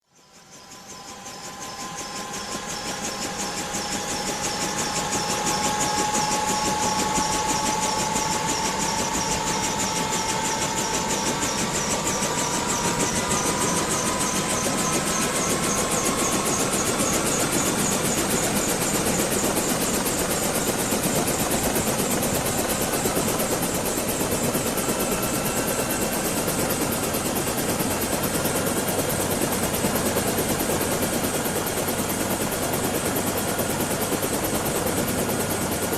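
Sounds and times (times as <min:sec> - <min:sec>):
drone propellers whining: 0:01.9 - 0:31.0.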